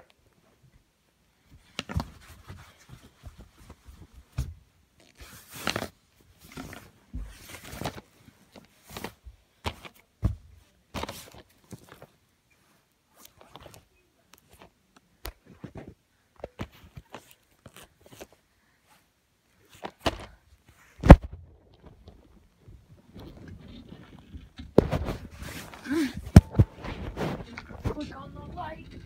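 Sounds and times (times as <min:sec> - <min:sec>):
rustling: 0:01.4 - 0:29.0.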